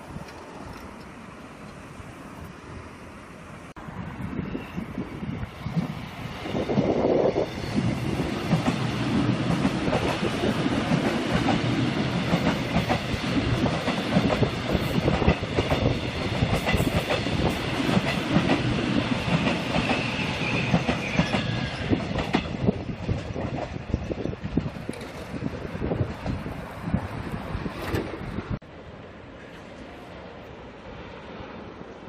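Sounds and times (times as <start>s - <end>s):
train rumbling past: 0.0s - 32.0s.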